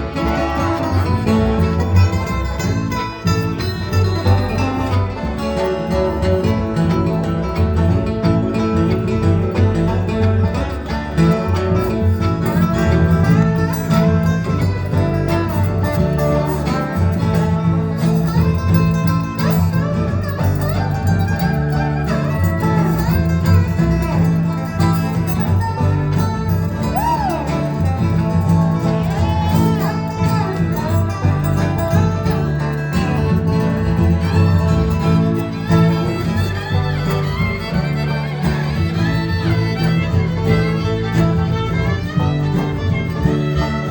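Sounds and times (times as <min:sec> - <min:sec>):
fiddle lead: 0:00.0 - 0:43.9
steady bass: 0:00.0 - 0:43.9
strummed guitar: 0:00.0 - 0:43.9.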